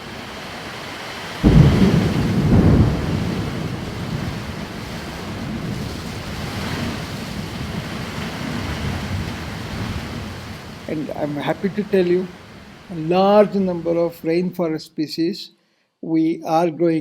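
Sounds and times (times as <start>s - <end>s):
thunder rumbling: 0.0s - 14.4s
rain hissing: 0.0s - 15.1s.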